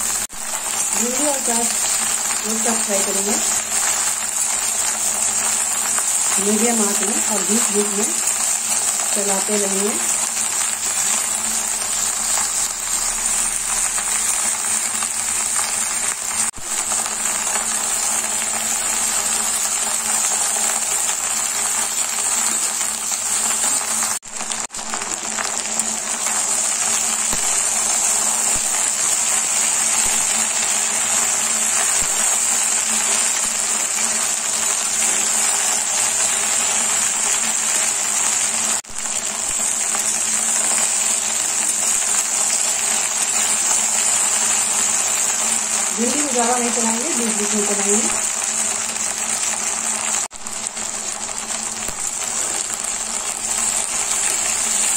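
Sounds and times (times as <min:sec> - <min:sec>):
vegetables sizzling in oil: 0:00.0 - 0:54.9.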